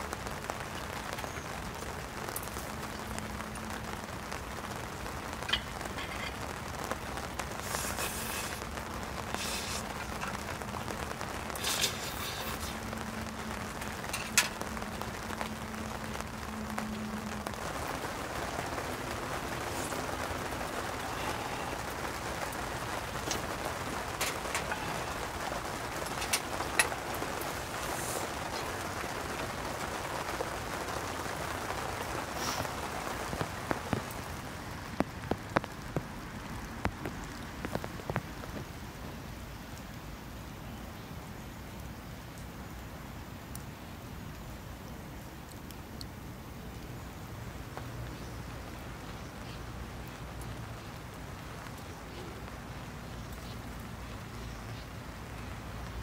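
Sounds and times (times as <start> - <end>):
rain on a tent: 0.0 - 56.0.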